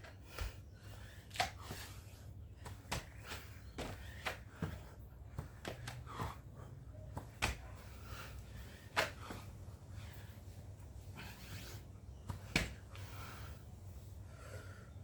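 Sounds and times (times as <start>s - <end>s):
person breathing hard: 0.1s - 6.9s, 7.7s - 12.0s, 12.8s - 15.0s.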